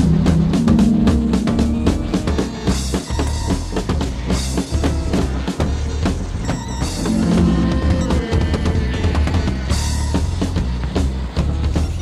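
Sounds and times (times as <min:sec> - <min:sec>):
drum kit beating rhythm: 0:00.0 - 0:12.0
noise rock music: 0:00.0 - 0:12.0.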